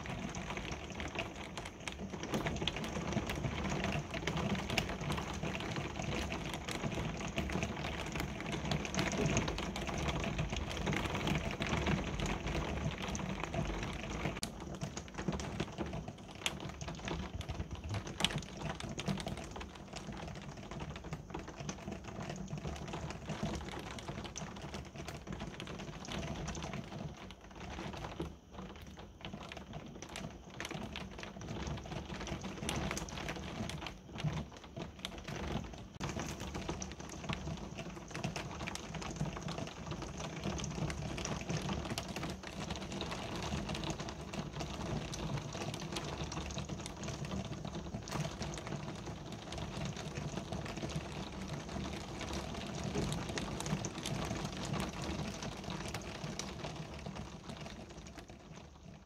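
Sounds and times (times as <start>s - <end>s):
raindrops ticking on hard surfaces: 0.0s - 59.0s.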